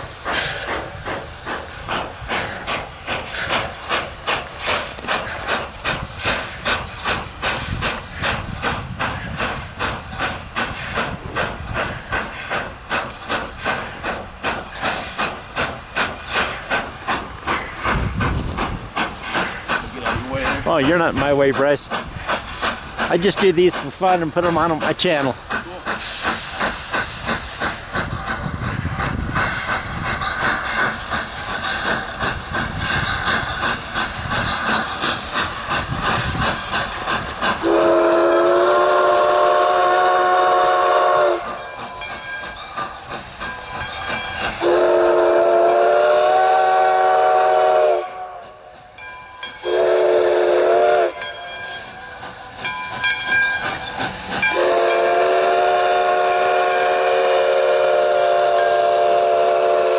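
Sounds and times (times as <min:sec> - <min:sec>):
steam locomotive hissing: 0:00.0 - 0:59.9.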